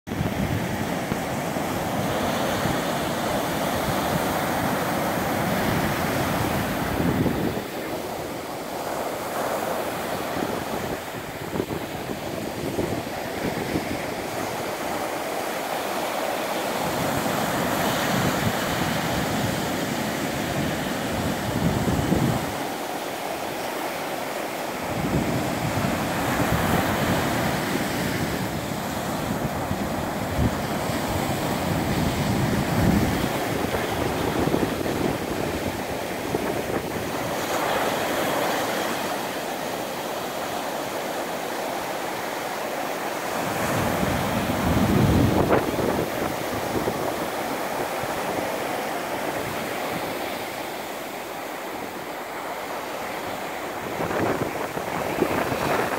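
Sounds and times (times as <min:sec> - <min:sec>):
wind buffeting microphone: 0:00.1 - 0:09.2, 0:09.8 - 0:15.5, 0:16.7 - 0:22.9, 0:24.8 - 0:39.3, 0:43.3 - 0:50.9, 0:53.1 - 0:55.9
waves breaking on a beach: 0:00.1 - 0:55.9.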